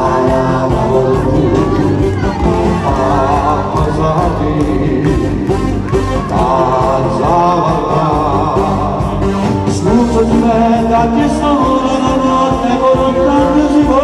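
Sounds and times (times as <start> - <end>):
duet singing with vibrato: 0.0 - 14.0
loud instrumental backing: 0.0 - 14.0.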